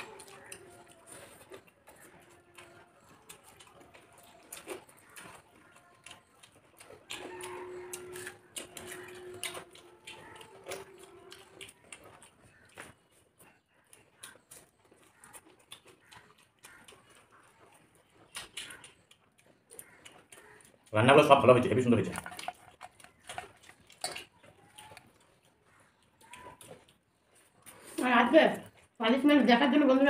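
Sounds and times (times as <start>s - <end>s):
fingers mixing rice on plates: 0.0s - 28.9s
chewing with clicks and smacks: 0.0s - 30.0s.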